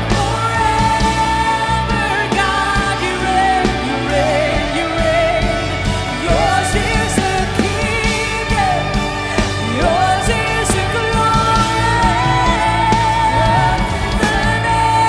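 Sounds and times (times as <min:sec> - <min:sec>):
rock band playing: 0:00.0 - 0:15.0
women singing: 0:00.0 - 0:15.0.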